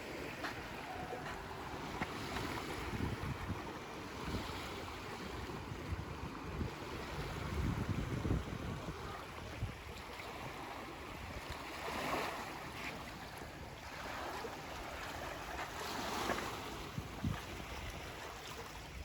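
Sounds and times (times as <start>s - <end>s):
small waves washing onto beach: 0.0s - 19.0s
wind buffeting microphone: 0.0s - 19.0s.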